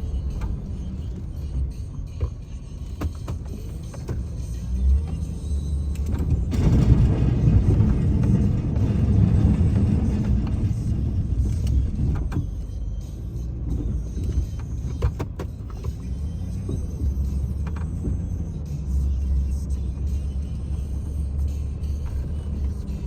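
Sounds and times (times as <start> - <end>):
snowplow engine rumble: 0.0 - 23.0.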